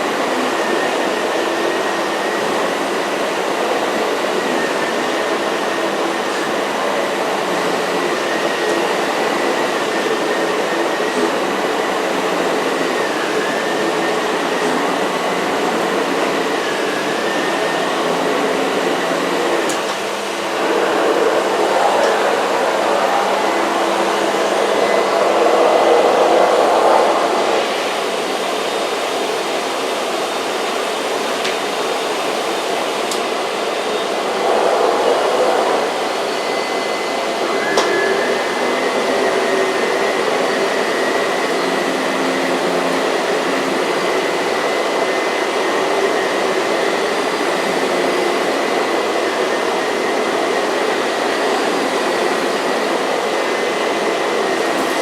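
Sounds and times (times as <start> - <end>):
vacuum cleaner suction with whine: 0.0 - 55.0.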